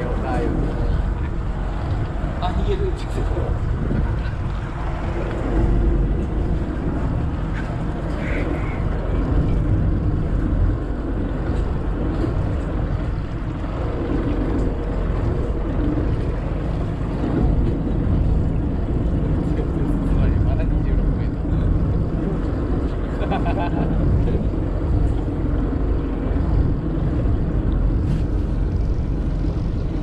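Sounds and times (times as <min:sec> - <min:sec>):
boat engine running: 0:00.0 - 0:30.0
wind rumbling on microphone: 0:00.0 - 0:30.0.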